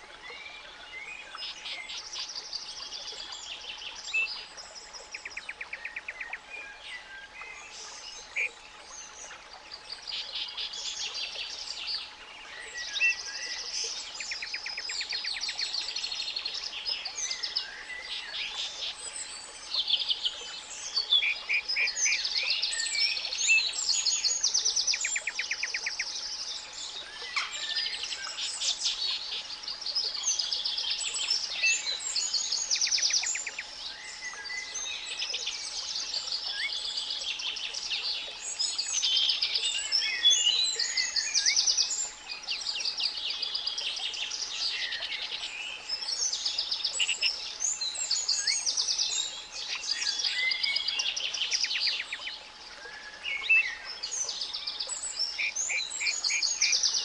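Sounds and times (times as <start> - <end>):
songbirds chorus with trills: 0.0 - 57.0.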